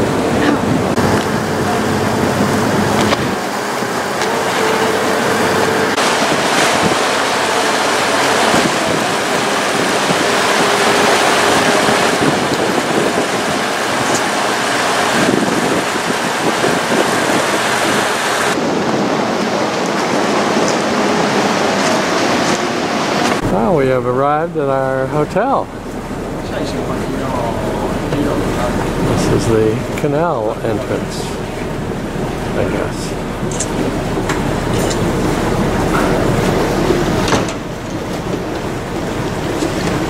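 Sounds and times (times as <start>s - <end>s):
water rushing past a motorboat: 0.0s - 40.0s
wind buffeting microphone: 0.0s - 40.0s.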